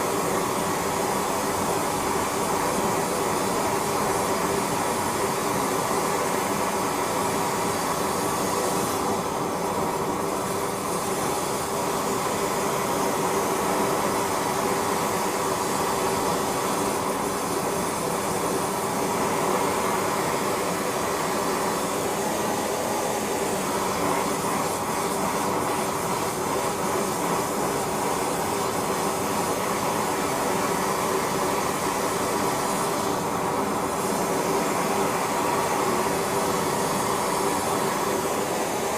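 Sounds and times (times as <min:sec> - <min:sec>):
machine roar with hum: 0:00.0 - 0:38.9.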